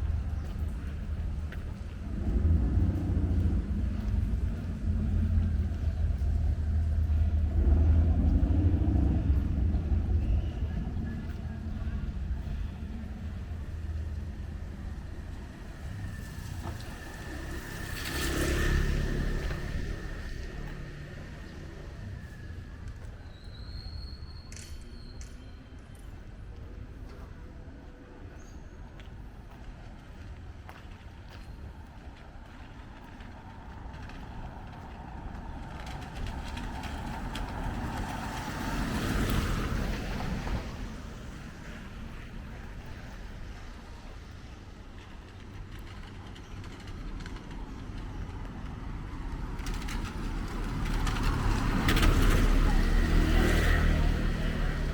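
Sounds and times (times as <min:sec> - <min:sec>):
street traffic engine rumble: 0:00.0 - 0:54.9.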